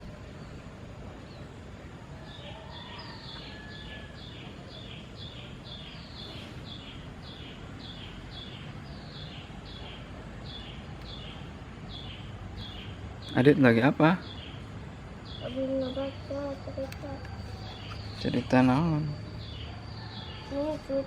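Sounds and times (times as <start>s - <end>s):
bird chirping: 0.0s - 21.0s
low outdoor background hum: 0.0s - 21.0s.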